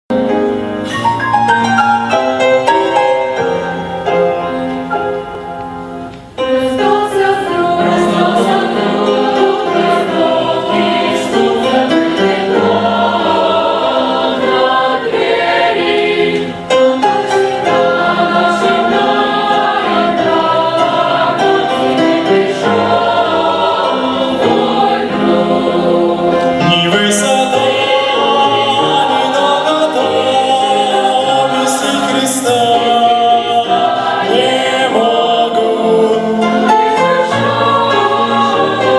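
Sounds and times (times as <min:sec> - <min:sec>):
instrumental accompaniment: 0:00.1 - 0:38.9
choir singing: 0:06.4 - 0:38.9.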